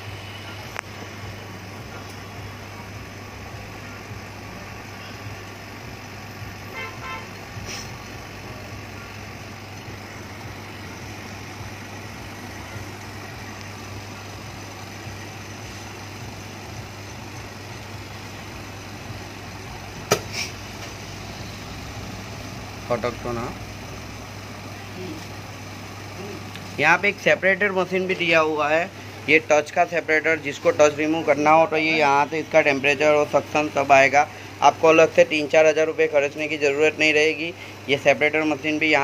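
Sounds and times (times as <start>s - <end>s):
machine motor hum: 0.0s - 39.0s.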